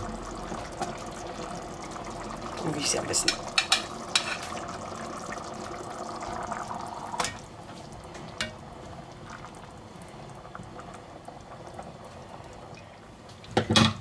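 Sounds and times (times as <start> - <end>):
sauce simmering and bubbling: 0.0 - 13.6.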